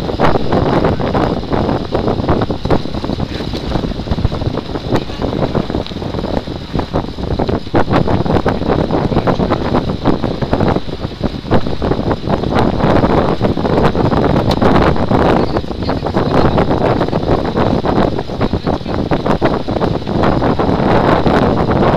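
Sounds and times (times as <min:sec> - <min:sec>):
vehicle rumble: 0:00.0 - 0:21.4
wind buffeting microphone: 0:00.0 - 0:21.9.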